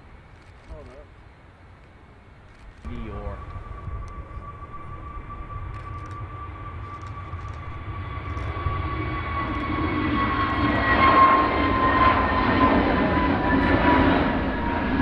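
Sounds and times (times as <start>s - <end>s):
jet engines whining: 1.3s - 15.0s
broad rumble: 2.5s - 15.0s.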